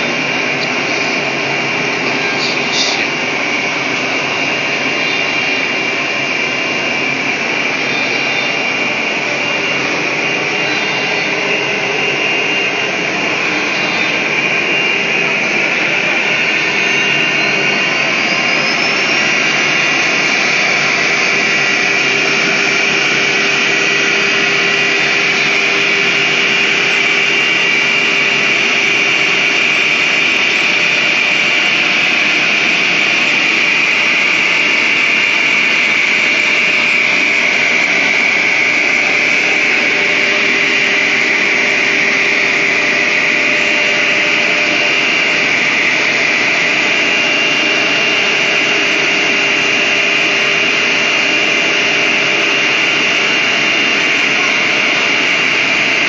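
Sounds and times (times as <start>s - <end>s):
cutter working wood: 0.0s - 56.0s
router spindle high whine: 0.0s - 56.0s.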